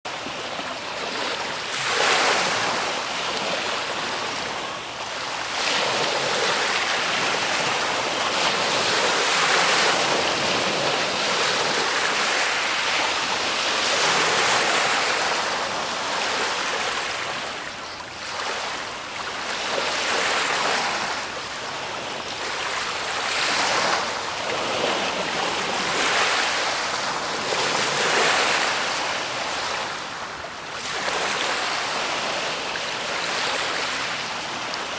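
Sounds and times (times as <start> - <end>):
ocean waves breaking: 0.1 - 34.9.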